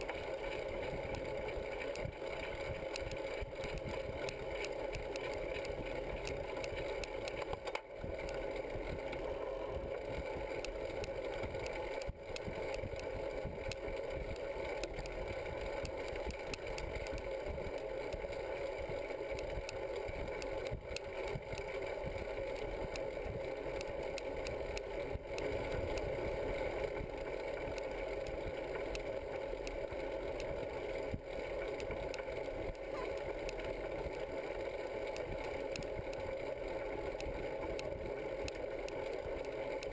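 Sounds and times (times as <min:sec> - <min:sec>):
bicycle tyre noise on road: 0:00.0 - 0:39.9.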